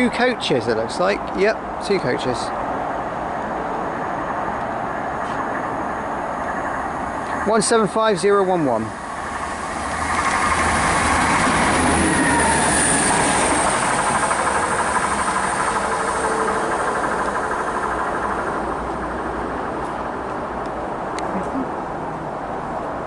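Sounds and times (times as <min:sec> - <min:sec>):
diesel train passing: 0:00.0 - 0:23.0.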